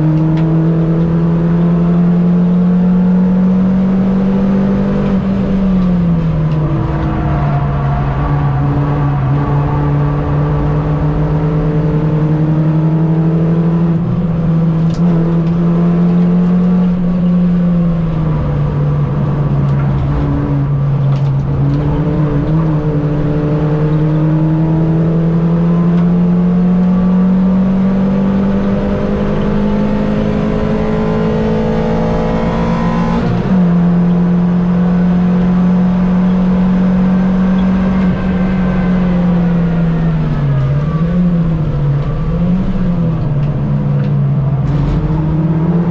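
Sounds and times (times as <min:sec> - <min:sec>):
race car engine running hard: 0:00.0 - 0:45.9.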